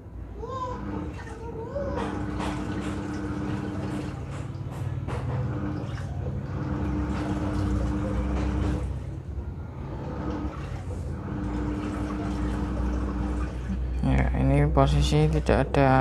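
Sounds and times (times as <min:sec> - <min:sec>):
washing machine motor humming: 0:00.0 - 0:16.0
water swishing and churning: 0:00.4 - 0:14.1.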